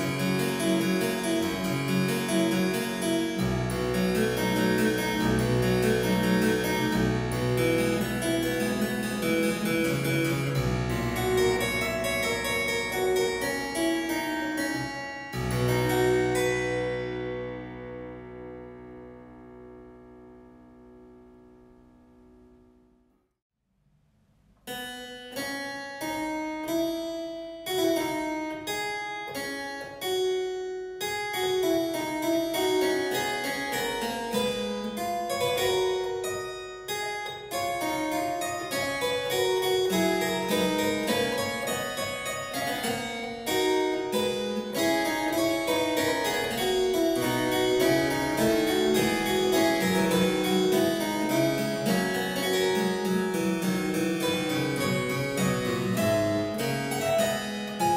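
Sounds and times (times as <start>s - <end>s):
harpsichord playing solo piece: 0.0s - 21.6s, 25.4s - 57.9s.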